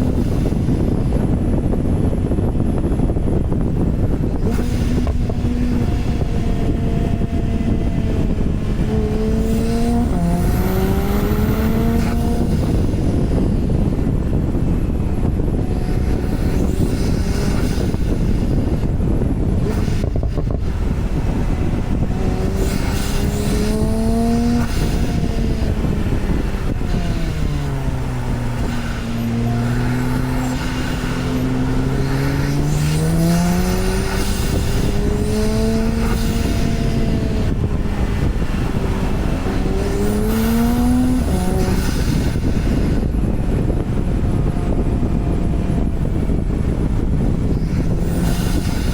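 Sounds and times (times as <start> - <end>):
car engine revving: 0.0 - 48.9
tyre and wind noise: 0.0 - 48.9.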